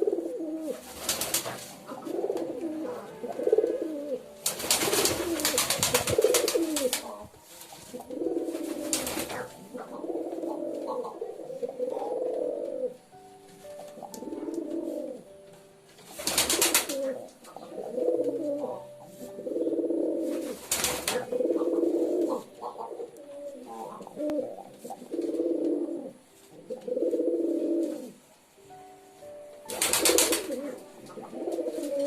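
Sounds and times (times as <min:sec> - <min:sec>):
pigeons cooing: 0:00.0 - 0:13.2, 0:13.9 - 0:15.4, 0:16.0 - 0:28.2, 0:29.7 - 0:32.0.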